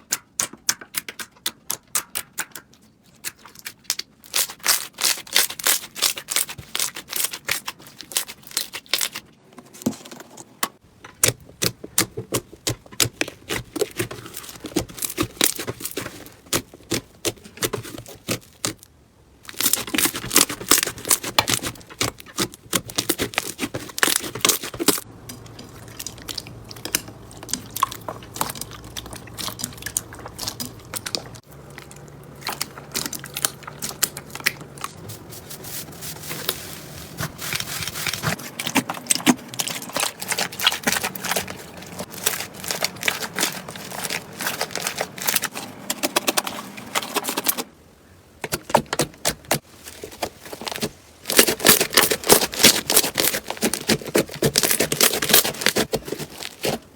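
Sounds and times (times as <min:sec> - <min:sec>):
slime crackling and popping: 0:00.1 - 0:09.3, 0:11.2 - 0:35.0, 0:36.4 - 0:45.5, 0:48.9 - 0:56.8.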